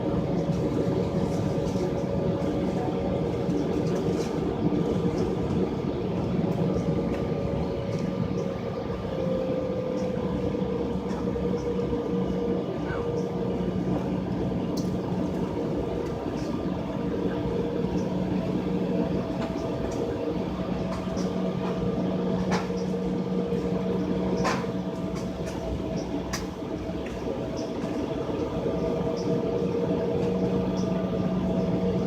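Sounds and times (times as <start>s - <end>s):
airliner cabin hum: 0.0s - 32.0s.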